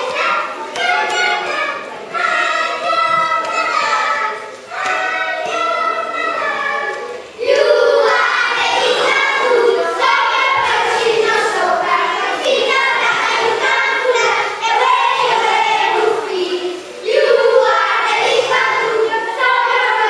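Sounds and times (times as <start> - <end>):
children singing in chorus: 0.0 - 20.0.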